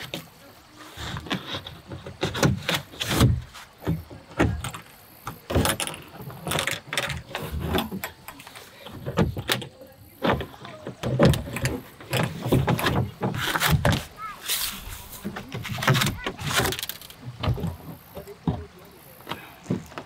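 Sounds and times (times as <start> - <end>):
plastic hull knocks and clicks: 1.2 - 14.2, 15.2 - 20.0.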